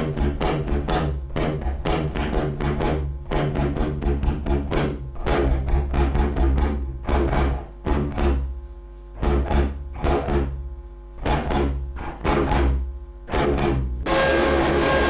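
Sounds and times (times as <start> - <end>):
harsh noisy electric guitar: 0.0 - 8.6, 9.2 - 15.0.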